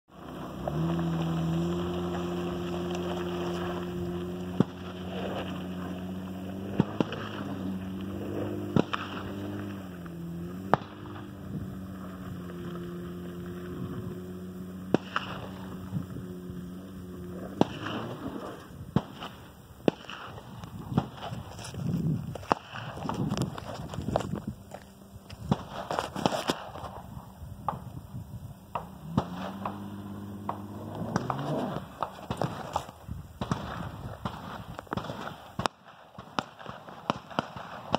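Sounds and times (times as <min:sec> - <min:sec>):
truck engine climbing hill: 0:00.1 - 0:35.0.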